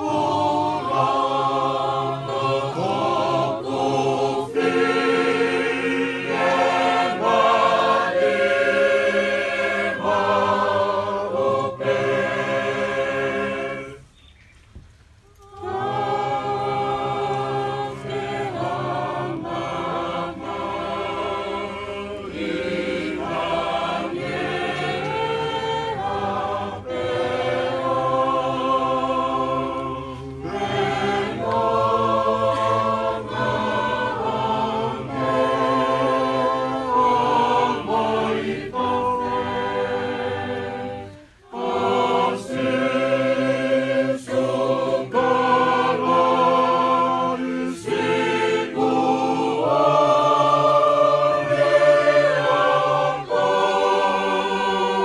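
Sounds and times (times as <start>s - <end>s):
choir singing a hymn a cappella: 0.0s - 14.4s, 15.4s - 55.0s.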